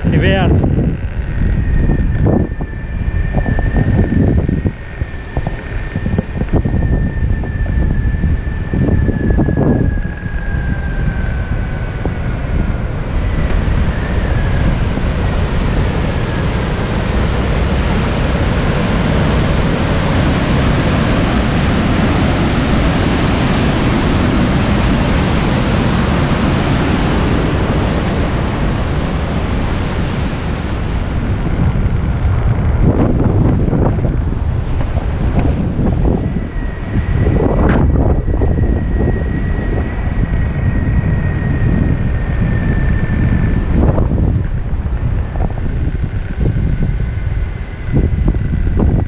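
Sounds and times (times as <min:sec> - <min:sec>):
faint high whine falling in pitch: 0:00.0 - 0:49.0
wind noise on microphone: 0:00.0 - 0:49.0.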